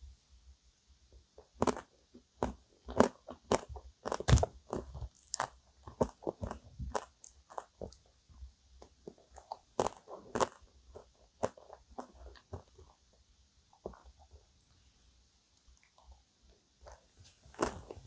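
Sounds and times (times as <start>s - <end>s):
chewing ice cream cake: 1.4s - 8.2s, 8.8s - 14.8s, 15.6s - 18.0s.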